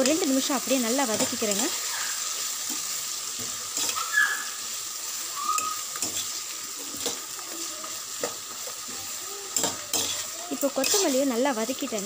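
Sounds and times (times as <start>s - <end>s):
food sizzling in oil: 0.0s - 12.0s
spatula scraping a pan: 1.0s - 11.3s.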